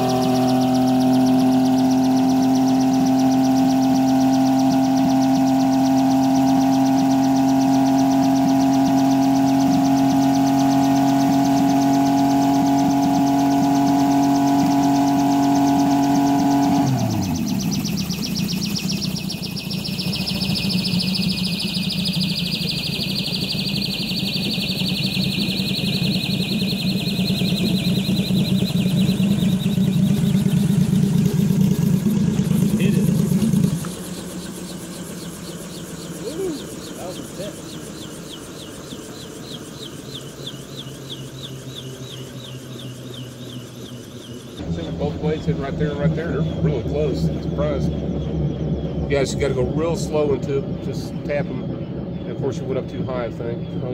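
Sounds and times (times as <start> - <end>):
helicopter engine running: 0.0 - 53.9
rotor whine falling in pitch: 0.0 - 53.9.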